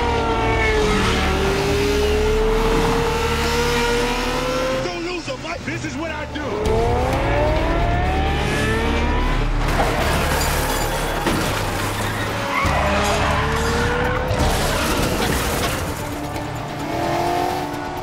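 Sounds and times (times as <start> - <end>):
car engines revving: 0.0 - 18.0
tyres skidding: 0.0 - 18.0.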